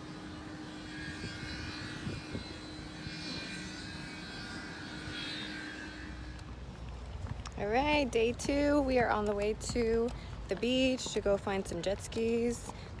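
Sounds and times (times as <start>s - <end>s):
low hum: 0.0s - 13.0s
steady outdoor drone: 0.0s - 13.0s.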